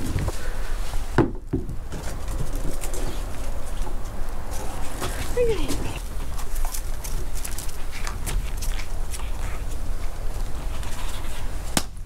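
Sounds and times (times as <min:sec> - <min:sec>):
puppy claws on wooden deck: 0:01.1 - 0:11.8.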